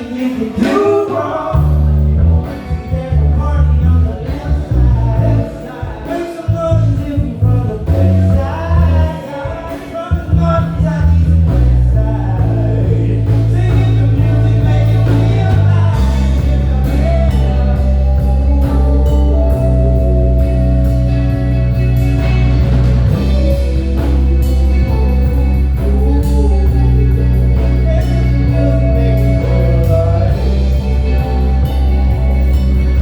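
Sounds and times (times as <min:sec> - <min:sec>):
drums: 0:00.0 - 0:33.0
electric bass: 0:00.0 - 0:33.0
keyboard chords: 0:00.0 - 0:33.0
sung or saxophone melody: 0:06.6 - 0:33.0.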